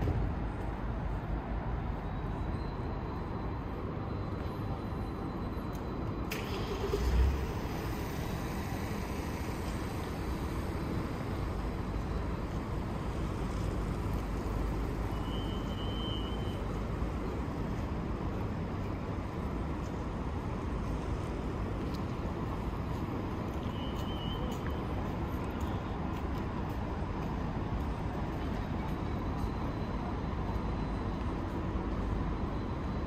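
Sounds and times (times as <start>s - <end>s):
road vehicles passing: 0.0s - 33.0s.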